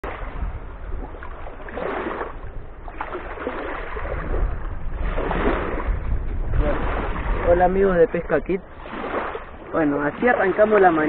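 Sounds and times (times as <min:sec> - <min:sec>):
small waves lapping on shore: 0:00.0 - 0:11.0
steady low rumble: 0:00.0 - 0:11.0.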